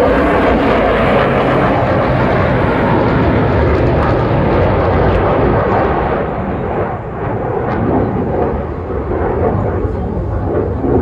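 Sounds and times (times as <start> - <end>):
jet flying over: 0.0 - 11.0.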